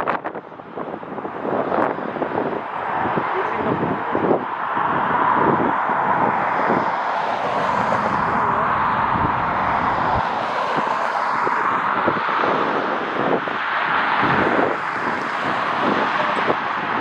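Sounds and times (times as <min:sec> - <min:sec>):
wind buffeting microphone: 0:00.0 - 0:17.0
jet engine rush: 0:01.6 - 0:17.0.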